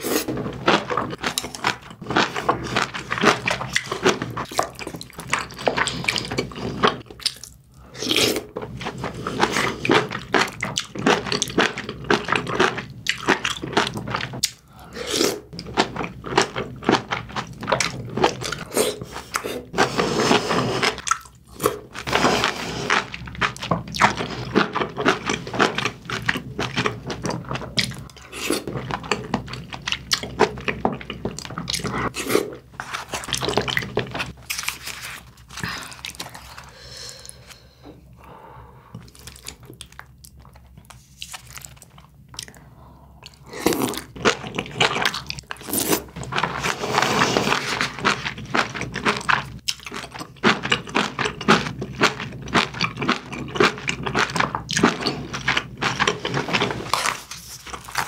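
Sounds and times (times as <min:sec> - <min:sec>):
person chewing food: 0:00.0 - 0:38.2, 0:38.8 - 0:58.0.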